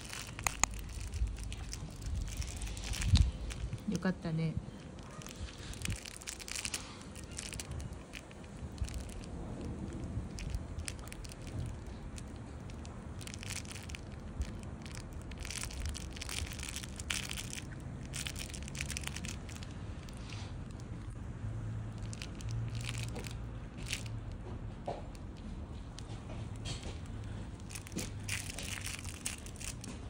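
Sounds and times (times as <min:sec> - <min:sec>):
puppy chewing plush toy: 0:00.0 - 0:04.1, 0:04.7 - 0:30.0.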